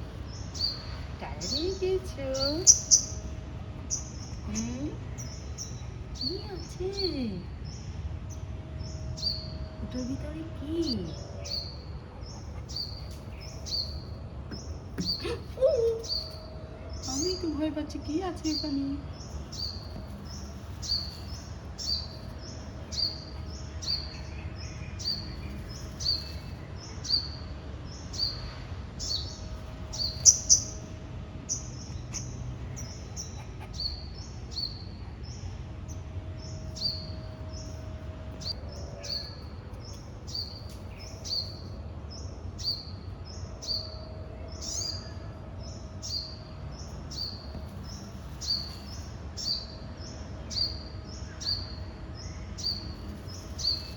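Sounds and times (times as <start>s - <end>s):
small bird chirping: 0.0s - 53.9s.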